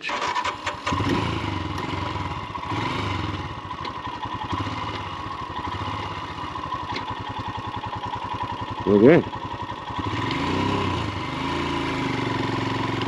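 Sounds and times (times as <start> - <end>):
motorcycle engine running: 0.1 - 13.0.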